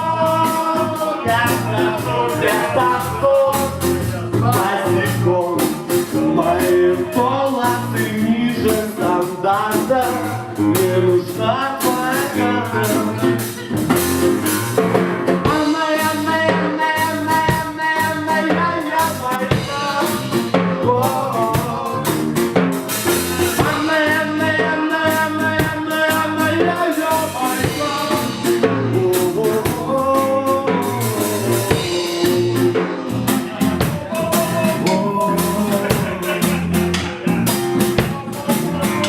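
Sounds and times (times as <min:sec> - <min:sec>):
bass: 0:00.0 - 0:39.0
drum kit with rimshots: 0:00.0 - 0:39.0
guitar: 0:00.0 - 0:39.0.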